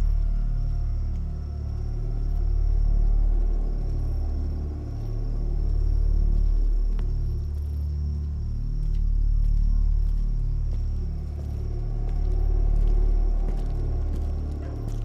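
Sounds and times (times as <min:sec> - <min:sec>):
deep low rumbling drone: 0:00.0 - 0:15.0.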